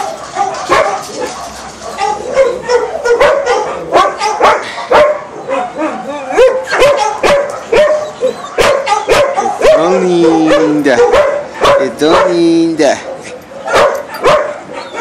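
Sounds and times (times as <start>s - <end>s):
dogs barking and yipping: 0.0s - 15.0s.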